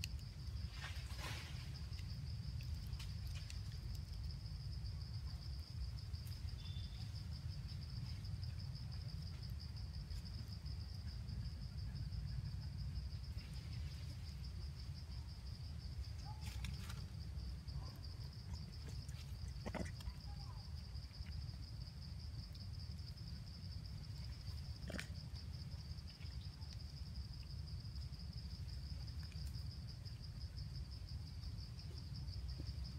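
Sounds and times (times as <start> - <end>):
insect trill: 0.0 - 32.9.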